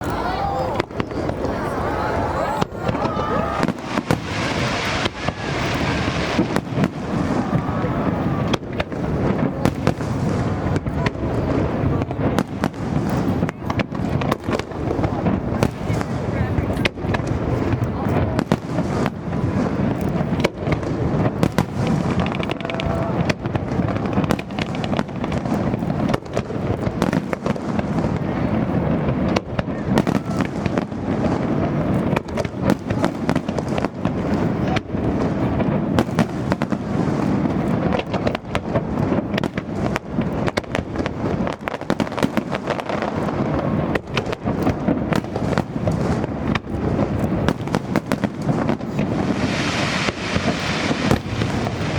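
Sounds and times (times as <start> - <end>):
fireworks bursting and booming: 0.0 - 51.9.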